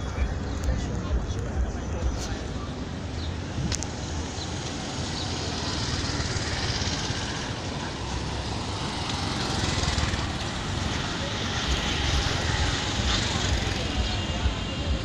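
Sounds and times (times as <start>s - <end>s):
auto-rickshaw engines puttering: 0.0s - 15.0s
street traffic noise: 0.0s - 15.0s.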